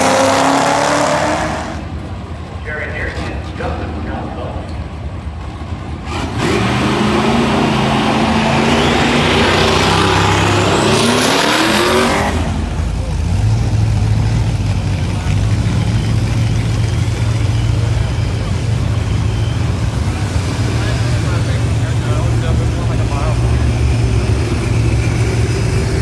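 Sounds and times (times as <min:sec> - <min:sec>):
car engine accelerating hard: 0:00.0 - 0:04.0, 0:05.4 - 0:26.0.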